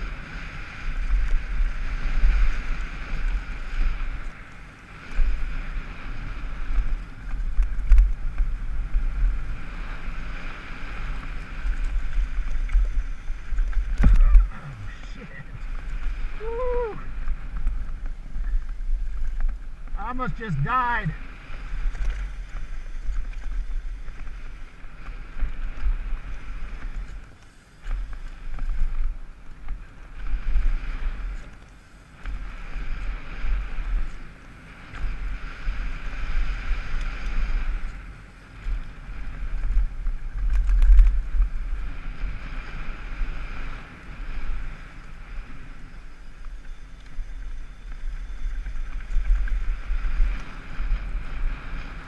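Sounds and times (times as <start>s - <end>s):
bike tyres rolling on dirt: 0.0s - 52.0s
wind buffeting microphone: 0.0s - 52.0s.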